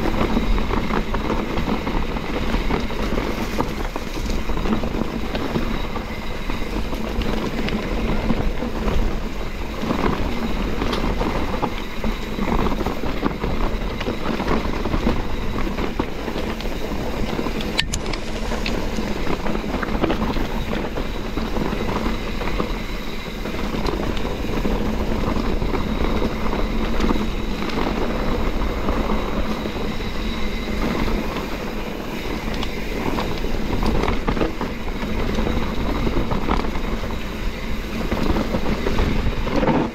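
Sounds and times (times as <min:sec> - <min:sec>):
bike chain and frame rattling: 0:00.0 - 0:39.9
tyres rolling on gravel: 0:00.0 - 0:39.9
wind on microphone: 0:00.0 - 0:39.9.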